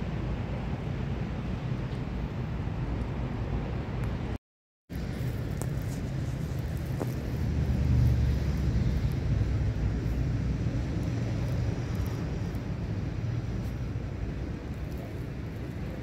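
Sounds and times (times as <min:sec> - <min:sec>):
low engine rumble: 0:00.2 - 0:16.0.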